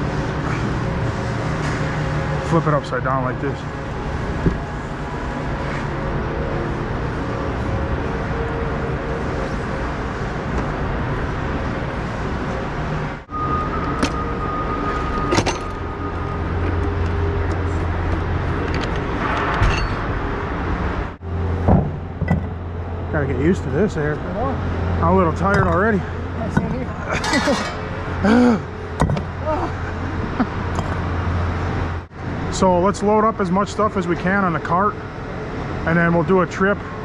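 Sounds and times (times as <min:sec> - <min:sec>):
machinery and ventilation drone: 0:00.0 - 0:37.0.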